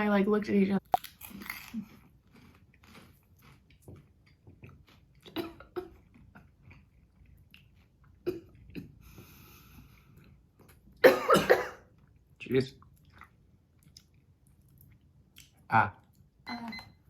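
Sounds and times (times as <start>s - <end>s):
person chewing food: 0.8s - 11.0s, 11.9s - 16.4s.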